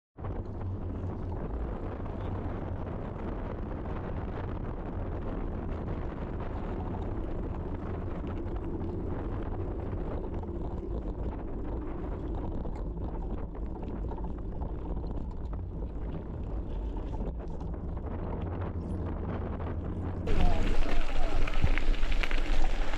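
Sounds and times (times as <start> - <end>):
wind buffeting microphone: 0.2 - 22.9.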